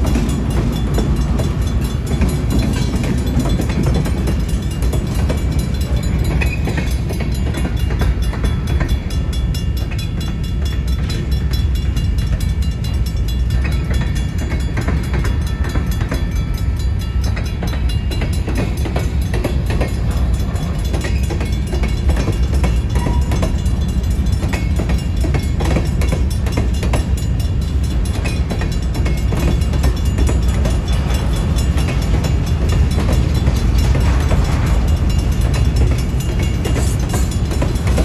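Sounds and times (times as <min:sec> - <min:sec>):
freight train rolling past: 0:00.0 - 0:38.0
wheels clattering over rail joints: 0:00.0 - 0:38.0.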